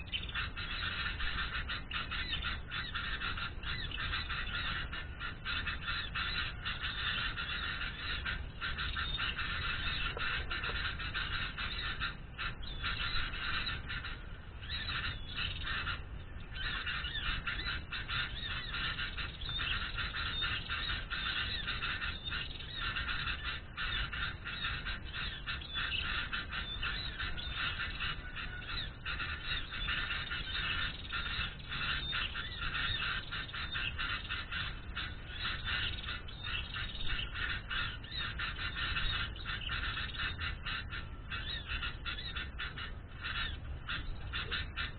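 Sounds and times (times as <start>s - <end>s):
small birds chattering: 0.0s - 44.9s.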